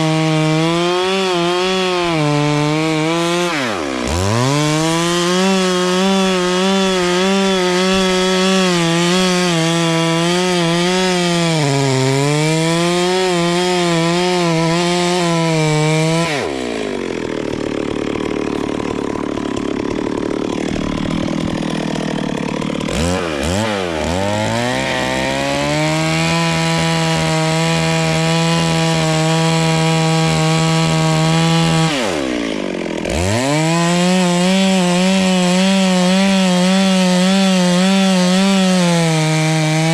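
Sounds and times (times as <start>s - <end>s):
chainsaw cutting a tree: 0.0s - 39.9s.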